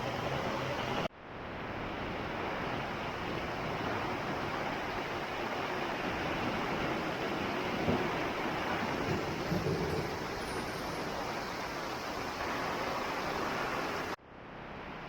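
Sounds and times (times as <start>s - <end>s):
heavy rain pouring: 0.0s - 14.2s.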